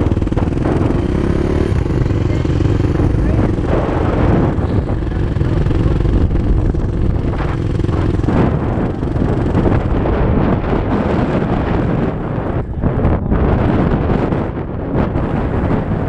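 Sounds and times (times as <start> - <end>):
dirt bike engines idling: 0.0 - 13.8
wind buffeting microphone: 0.0 - 16.0.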